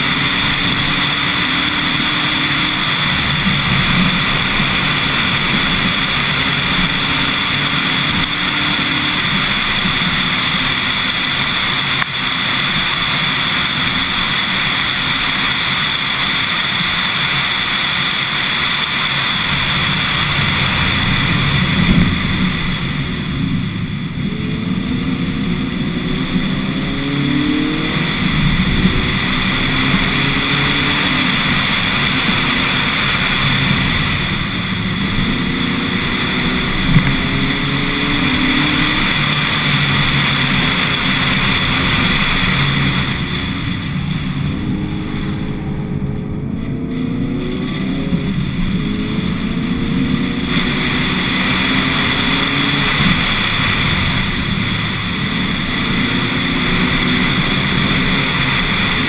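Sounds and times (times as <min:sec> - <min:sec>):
car engine running under load: 0:00.0 - 0:59.0
road noise: 0:00.0 - 0:59.0.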